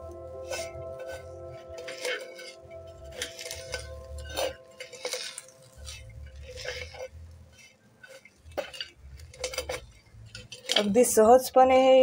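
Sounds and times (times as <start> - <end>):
muffled crushing and scraping: 0.0 - 12.0.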